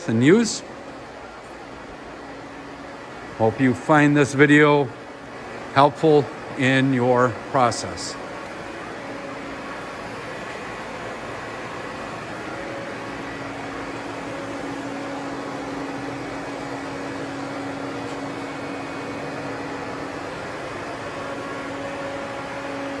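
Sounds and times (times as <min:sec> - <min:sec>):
machine shop hum: 0:00.0 - 0:23.0.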